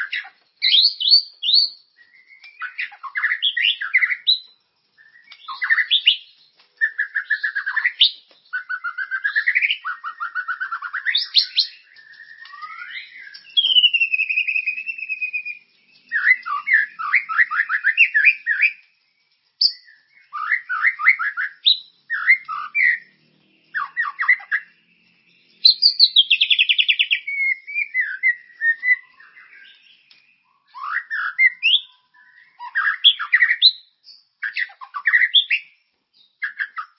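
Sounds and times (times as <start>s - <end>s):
songbird singing whistles and trills: 0.0s - 36.9s.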